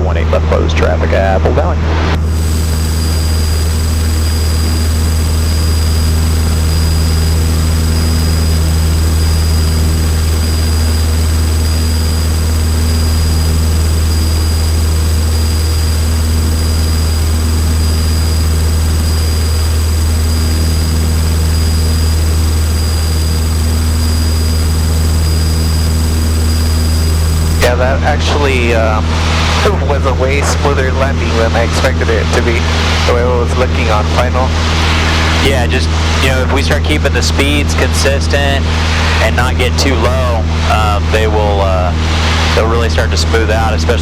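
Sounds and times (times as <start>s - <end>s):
airplane engine droning: 0.0s - 44.0s
high-pitched whines: 0.2s - 44.0s.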